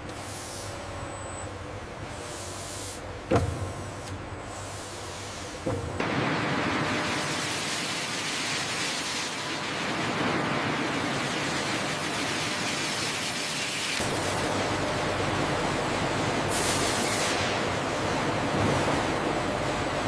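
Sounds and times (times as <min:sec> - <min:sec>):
hissing factory machinery: 0:00.0 - 0:20.0.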